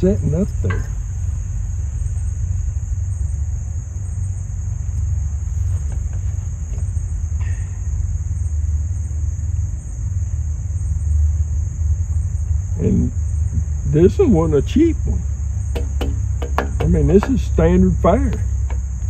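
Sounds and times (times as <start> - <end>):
high insect drone: 0.0 - 19.0
low rumble: 0.0 - 19.0.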